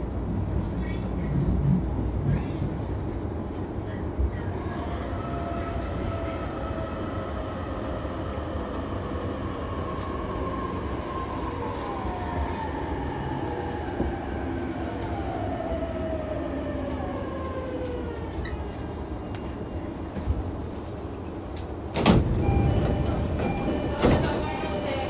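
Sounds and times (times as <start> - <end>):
train wheel and rail rumble: 0.0 - 25.0.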